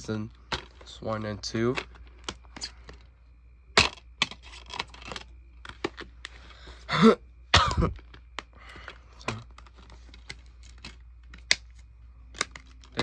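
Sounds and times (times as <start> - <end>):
plastic cases clicking and rattling: 0.0 - 3.1, 3.8 - 6.6, 7.7 - 13.0.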